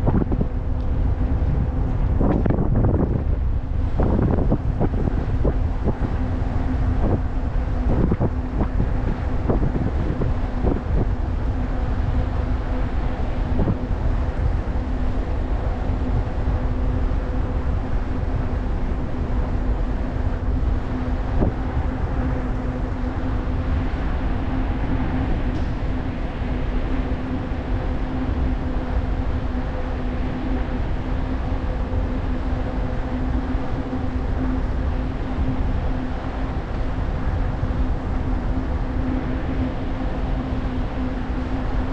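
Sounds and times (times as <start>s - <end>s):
steady low hum: 0.0s - 41.9s
wind buffeting microphone: 0.0s - 41.9s.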